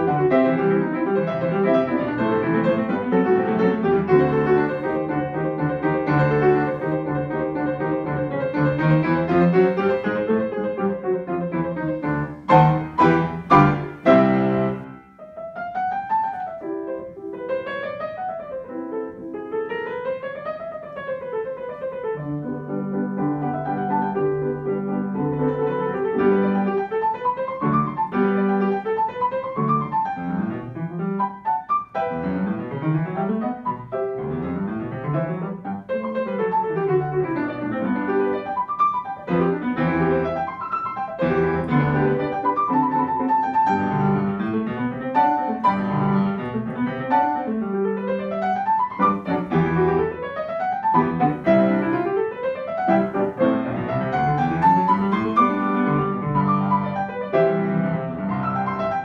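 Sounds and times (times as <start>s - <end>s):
grand piano four hands: 0.0s - 59.0s.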